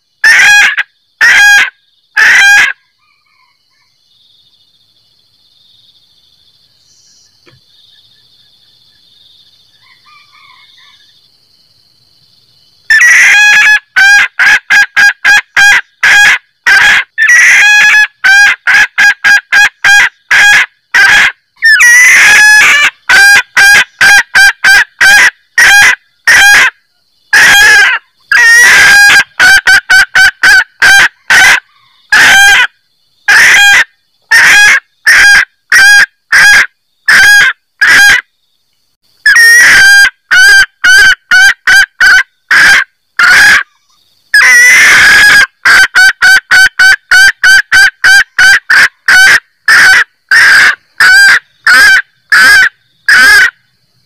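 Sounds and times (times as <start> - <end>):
hen cackling: 0.2 - 3.9, 12.9 - 38.3, 39.2 - 53.6.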